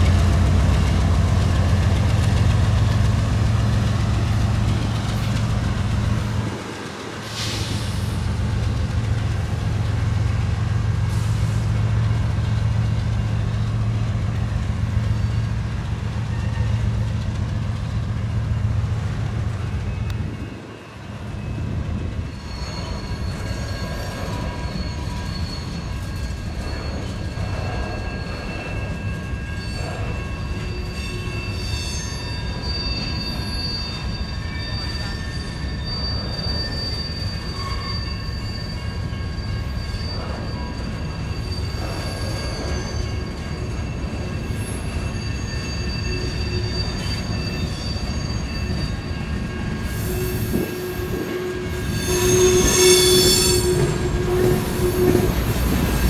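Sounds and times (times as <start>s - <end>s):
freight train rumbling: 0.0s - 56.0s
train wheels squealing: 0.0s - 56.0s.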